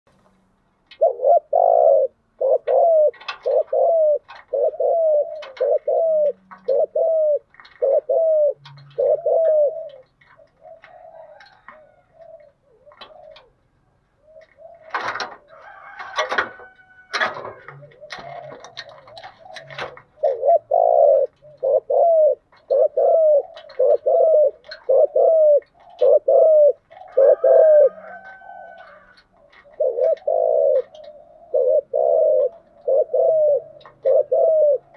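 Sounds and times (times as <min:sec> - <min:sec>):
dove cooing: 0:00.8 - 0:34.9.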